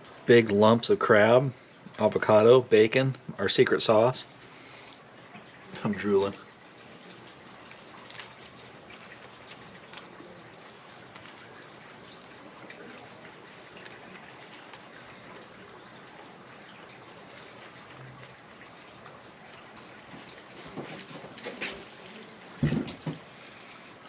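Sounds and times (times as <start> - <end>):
trickle of running water: 0.0 - 24.0.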